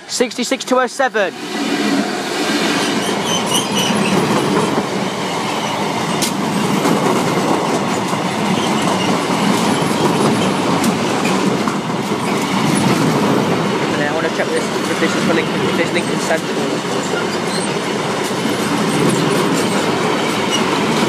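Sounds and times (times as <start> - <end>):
train wheels rumbling on rails: 1.3 - 21.0.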